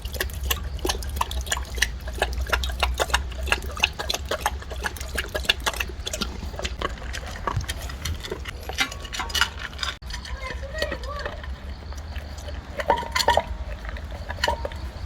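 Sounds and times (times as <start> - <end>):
dog lapping water: 0.0 - 15.0.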